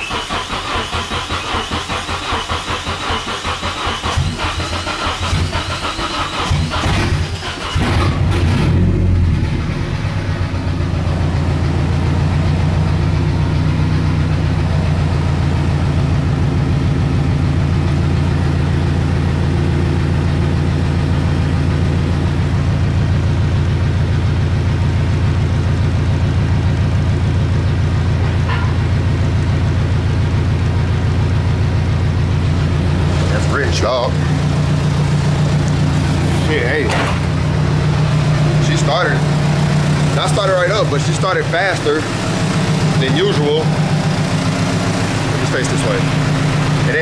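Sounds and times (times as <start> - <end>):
car engine starting and idling: 0.0 - 47.0.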